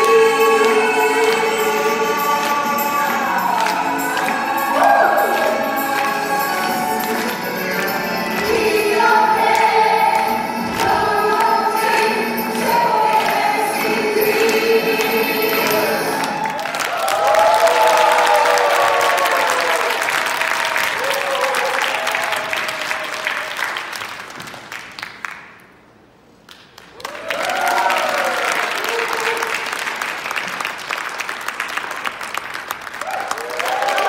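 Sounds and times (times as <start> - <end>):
audience clapping: 0.0 - 34.0.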